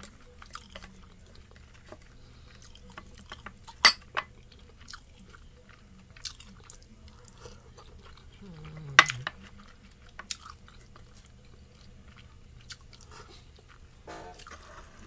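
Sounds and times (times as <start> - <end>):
chewing and mouth sounds: 0.3 - 3.4, 4.3 - 14.5.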